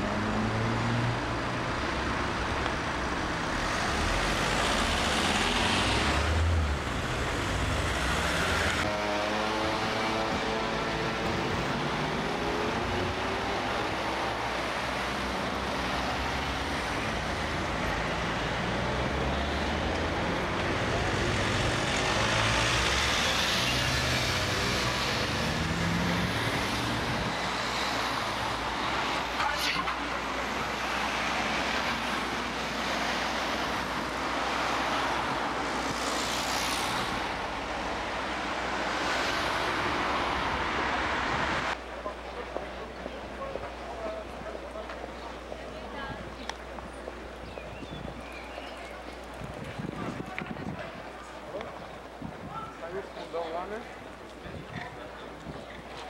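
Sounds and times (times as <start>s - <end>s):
passing vehicles: 0.0s - 56.0s.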